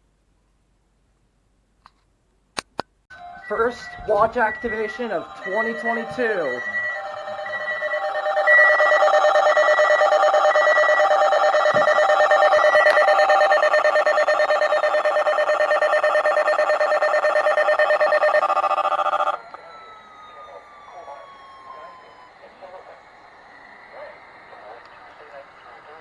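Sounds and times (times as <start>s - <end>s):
warbling alarm tone: 3.1s - 24.3s.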